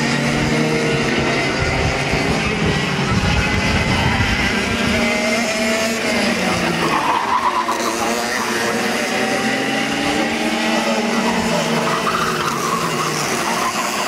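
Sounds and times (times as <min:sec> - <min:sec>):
racing kart engines at high revs: 0:00.0 - 0:14.0.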